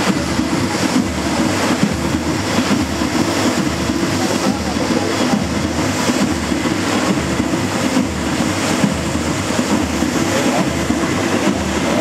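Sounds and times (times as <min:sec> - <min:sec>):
fountain water jets rushing: 0:00.0 - 0:12.0.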